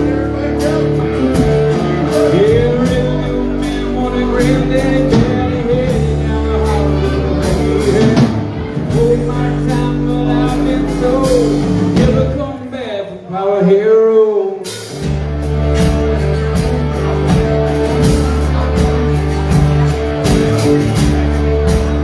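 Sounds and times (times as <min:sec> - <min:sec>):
live rock band playing: 0:00.0 - 0:13.2, 0:14.6 - 0:22.0.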